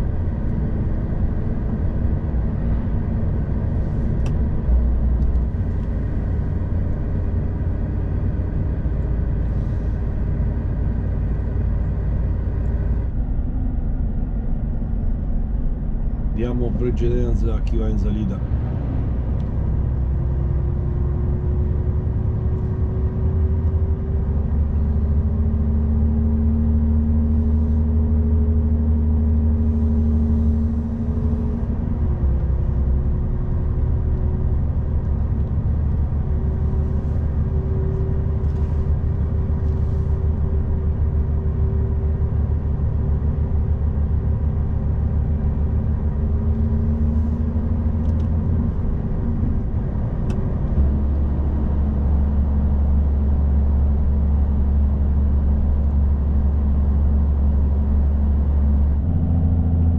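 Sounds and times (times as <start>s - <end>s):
truck diesel engine rumbling: 0.0s - 59.9s.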